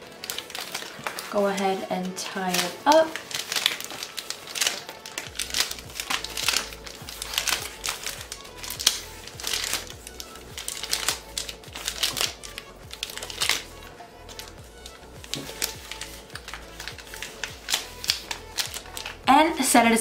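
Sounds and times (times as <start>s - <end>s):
plastic bag crinkling: 0.0s - 19.9s
background music: 0.0s - 20.0s.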